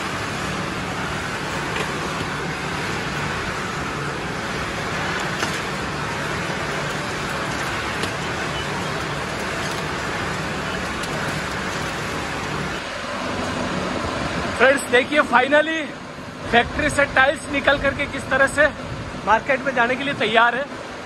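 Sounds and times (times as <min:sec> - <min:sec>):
conveyor machinery droning: 0:00.0 - 0:21.0.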